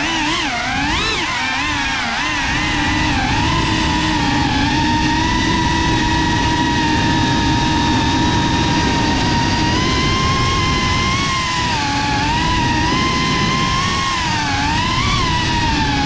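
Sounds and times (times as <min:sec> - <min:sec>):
propeller wash rushing: 0:00.0 - 0:16.0
quadcopter motors humming: 0:00.0 - 0:16.0.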